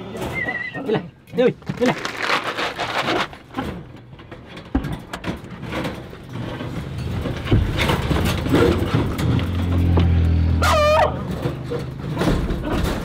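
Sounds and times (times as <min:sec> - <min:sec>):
van engine rumbling: 0:01.1 - 0:13.0.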